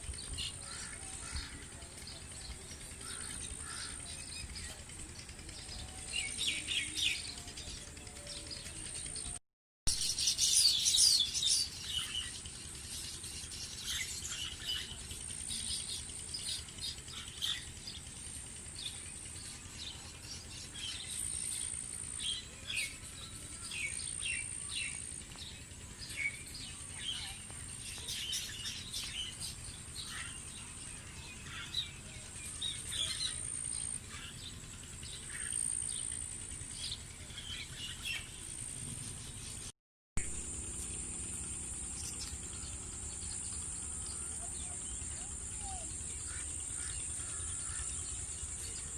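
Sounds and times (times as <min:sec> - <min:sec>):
small birds chirping: 0:00.0 - 0:48.9
thin high hum: 0:00.0 - 0:48.9.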